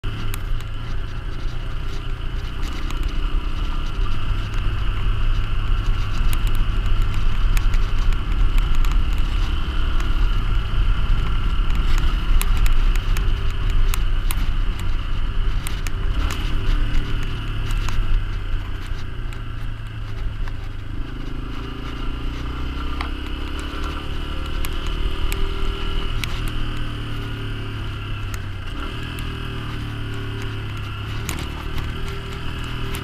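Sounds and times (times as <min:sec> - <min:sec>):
motorcycle engine rumble: 0:00.0 - 0:33.0
sharp ticks: 0:00.1 - 0:33.0.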